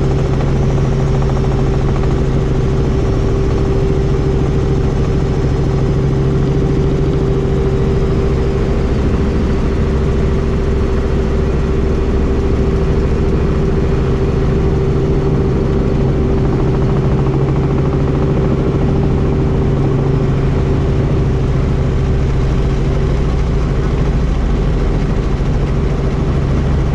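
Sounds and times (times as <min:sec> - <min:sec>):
helicopter engine and rotor: 0:00.0 - 0:26.9.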